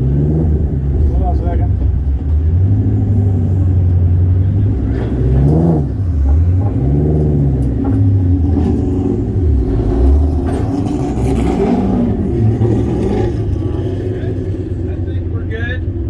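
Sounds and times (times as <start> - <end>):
car engine idling with throttle blips: 0.0 - 16.0.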